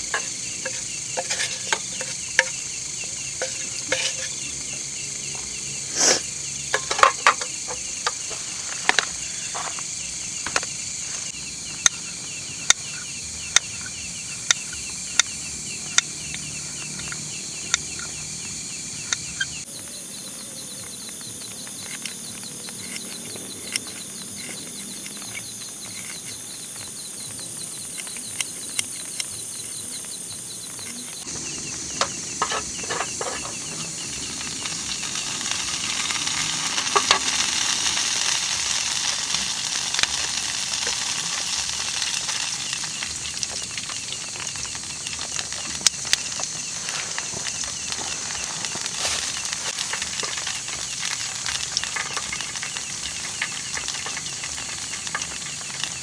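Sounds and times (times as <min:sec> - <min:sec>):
food sizzling in oil: 0:00.0 - 0:56.0
oil crackling and popping: 0:00.0 - 0:56.0.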